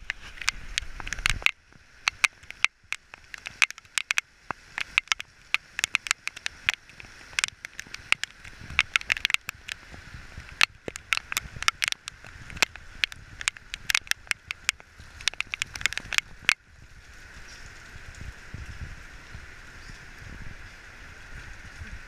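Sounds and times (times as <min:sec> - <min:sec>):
loud raindrop impacts: 0:00.0 - 0:22.0
rain hiss: 0:00.0 - 0:22.0.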